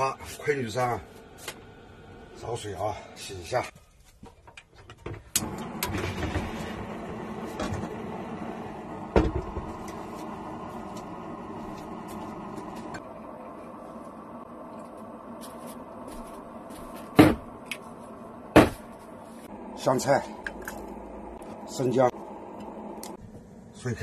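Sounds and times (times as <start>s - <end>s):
gas burner flame rushing: 0.0s - 3.6s, 5.3s - 16.1s, 18.3s - 24.0s.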